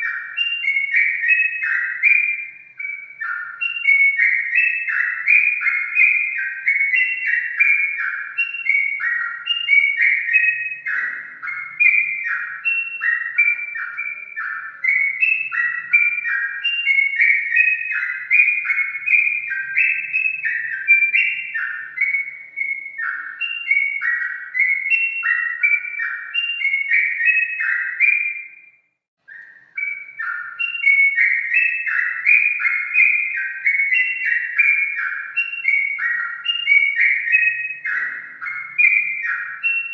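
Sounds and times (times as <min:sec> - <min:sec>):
bird singing bubbly whistles: 0:00.0 - 0:39.9.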